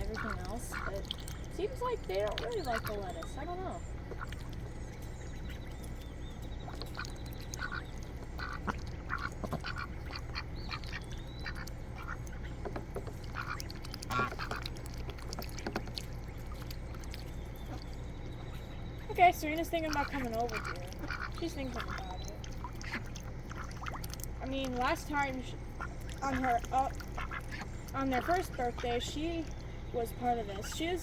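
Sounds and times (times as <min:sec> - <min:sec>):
ducks quacking: 0:00.0 - 0:31.0.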